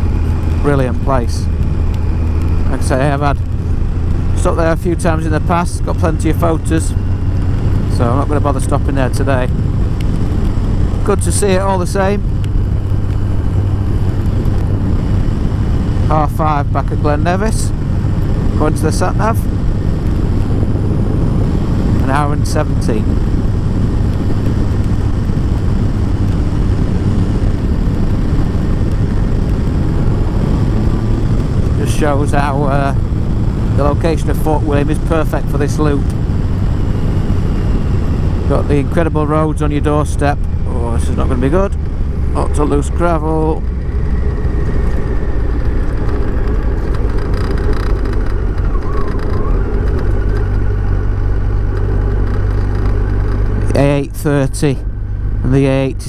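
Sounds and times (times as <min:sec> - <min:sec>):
motorcycle engine hum: 0:00.0 - 0:56.0
wind and road noise: 0:00.0 - 0:56.0.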